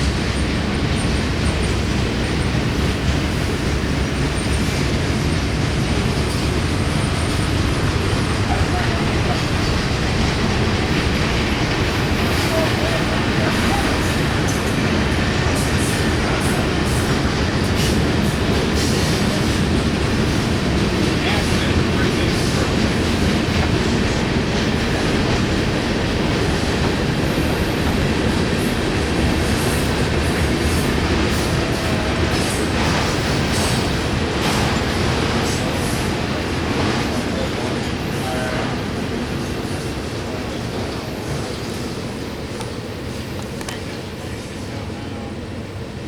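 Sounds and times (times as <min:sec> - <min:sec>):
freight train wheels rumbling on rail: 0:00.0 - 0:46.0.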